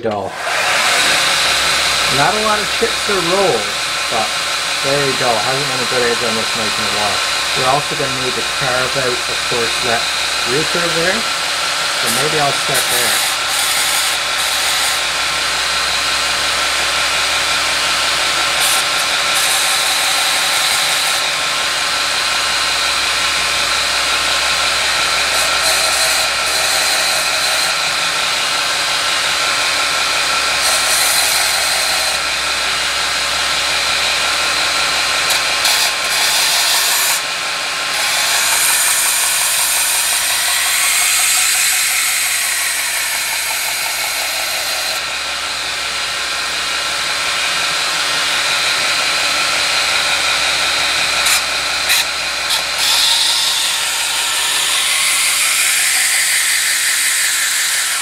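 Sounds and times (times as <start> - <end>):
belt grinder grinding steel blade: 0.0 - 58.0.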